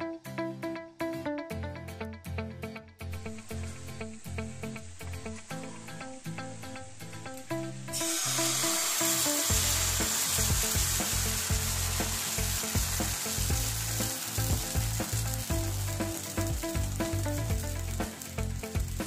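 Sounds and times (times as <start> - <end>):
batter sizzling in a wok: 3.3 - 19.0.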